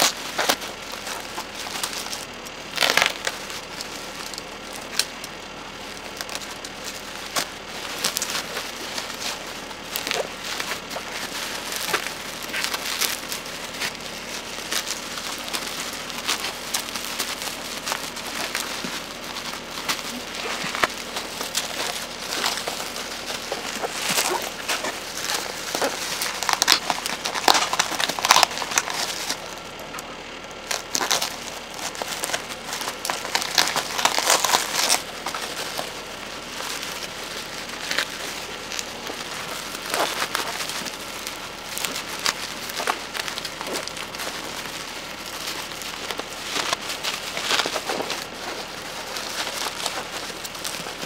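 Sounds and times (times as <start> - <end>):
packaging crinkling: 0.0 - 51.0.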